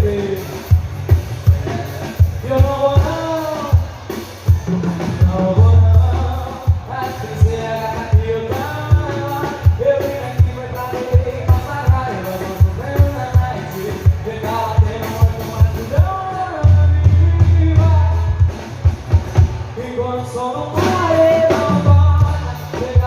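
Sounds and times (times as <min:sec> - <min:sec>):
drum kit beat: 0:00.0 - 0:23.0
live band music: 0:00.0 - 0:23.0.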